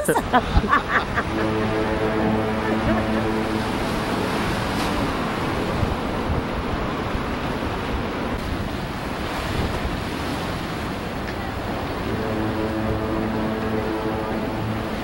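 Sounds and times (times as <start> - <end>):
low multi-tone hum: 0.0 - 8.4, 11.2 - 15.0
waves breaking on shore: 0.0 - 15.0
wind buffeting microphone: 0.3 - 15.0.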